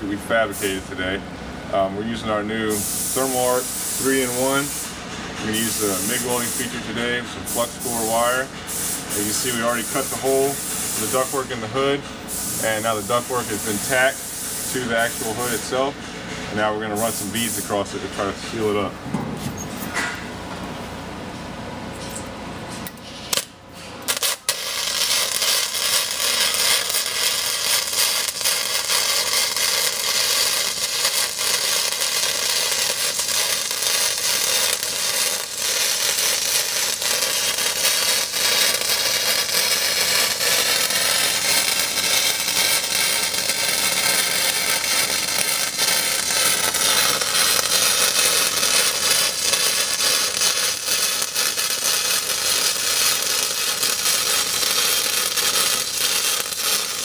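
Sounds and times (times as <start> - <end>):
welding arc crackling: 2.1 - 15.9, 17.0 - 18.3, 23.3 - 57.0.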